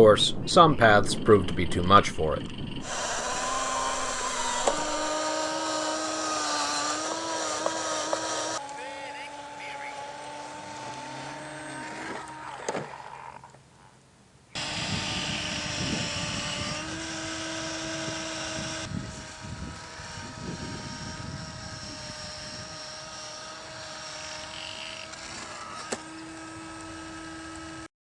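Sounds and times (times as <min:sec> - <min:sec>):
toy truck motor whining: 0:02.8 - 0:13.6, 0:14.6 - 0:27.9.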